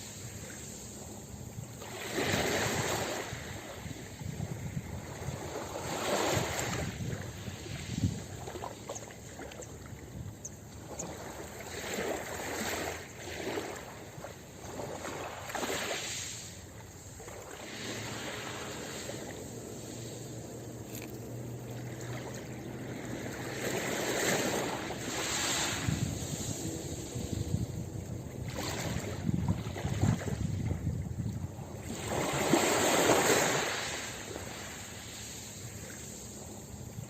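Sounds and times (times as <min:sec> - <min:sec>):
ocean waves washing on beach: 0:00.0 - 0:37.0.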